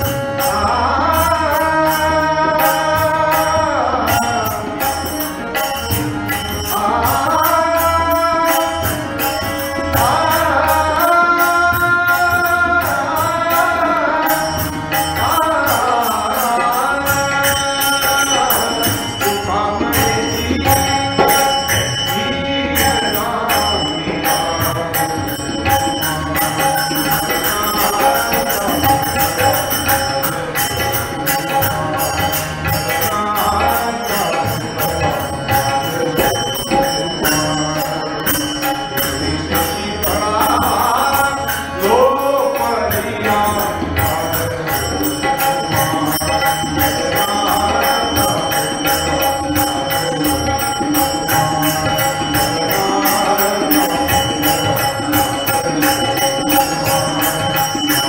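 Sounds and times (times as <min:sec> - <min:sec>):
jingling percussion: 0:00.0 - 0:58.0.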